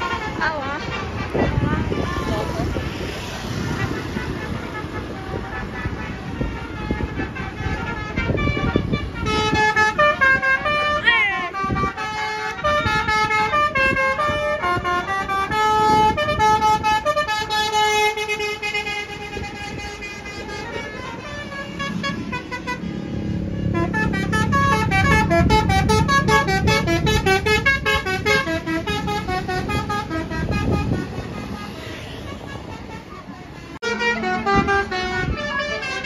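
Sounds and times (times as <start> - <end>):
bus engine rumble: 0.0 - 36.0
air horns playing a tune: 3.4 - 36.0.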